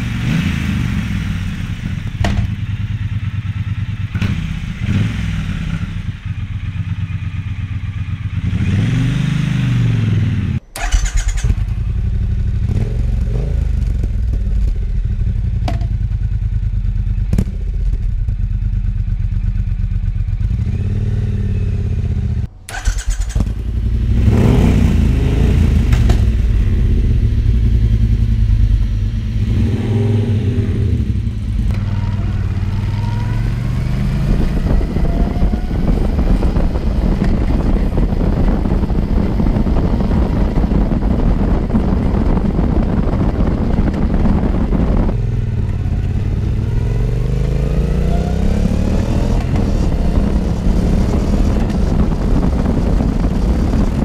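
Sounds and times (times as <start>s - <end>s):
motorcycle engine idling and revving: 0.0s - 54.0s
motorcycle riding on road: 0.0s - 54.0s.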